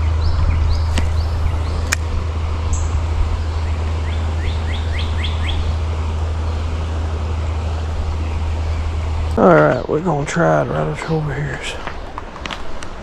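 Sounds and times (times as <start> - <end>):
creek flowing: 0.0 - 13.0
low rumble: 0.0 - 13.0
songbird chirping: 0.0 - 13.0.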